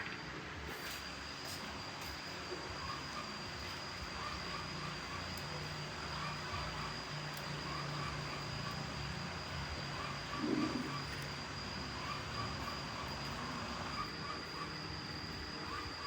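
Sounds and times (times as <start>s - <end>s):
insects chirping: 0.0s - 16.0s
low hum: 0.0s - 16.0s.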